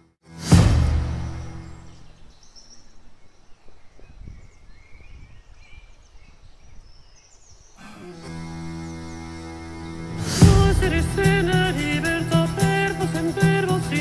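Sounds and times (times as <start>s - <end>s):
birds chirping: 1.0s - 14.0s.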